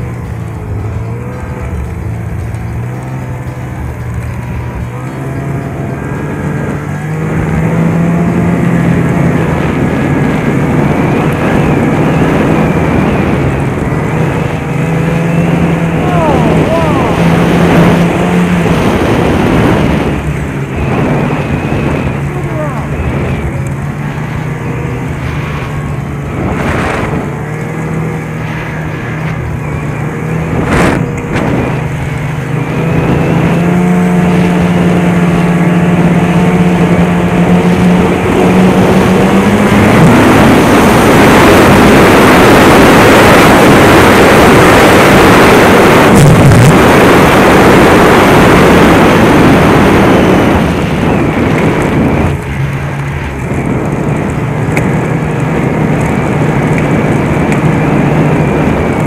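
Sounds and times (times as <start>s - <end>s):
rushing ride noise: 0.0s - 59.0s
snowmobile engine running: 0.0s - 59.0s.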